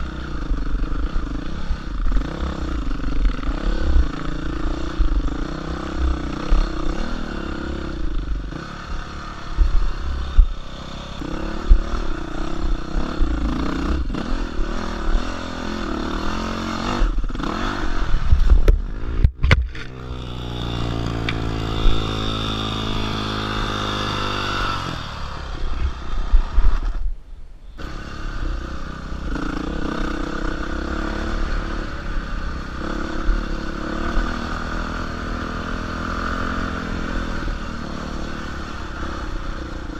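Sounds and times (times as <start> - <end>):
dirt bike engine revving: 0.0 - 27.0, 27.8 - 39.9.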